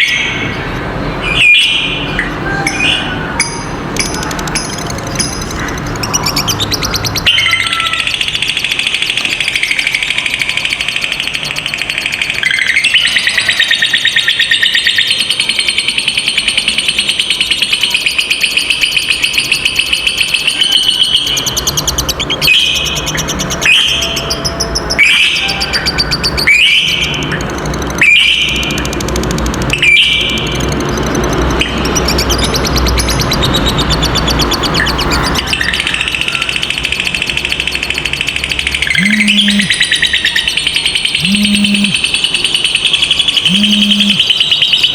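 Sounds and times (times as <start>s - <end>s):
bird calls: 0.0s - 44.9s
bird chattering trill: 0.0s - 44.9s.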